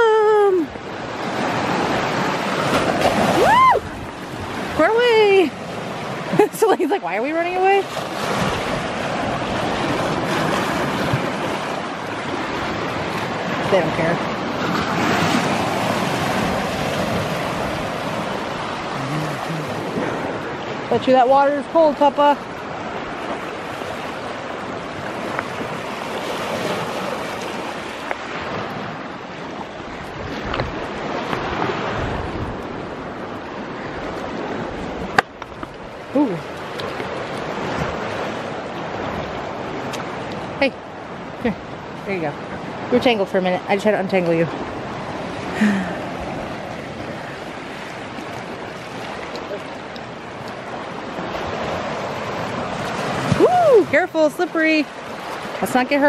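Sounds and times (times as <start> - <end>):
lake waves washing over rocks: 0.0 - 56.0.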